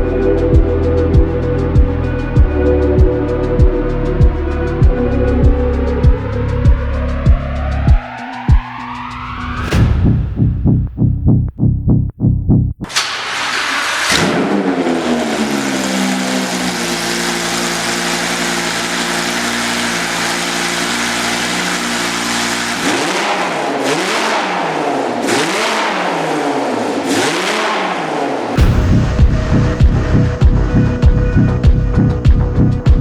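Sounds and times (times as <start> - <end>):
sports car engine revving: 0.0 - 33.0.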